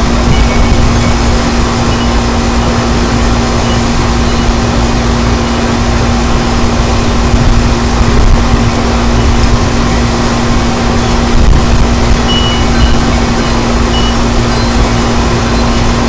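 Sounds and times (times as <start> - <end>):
constant hum: 0.0 - 16.0
wind buffeting microphone: 0.0 - 16.0.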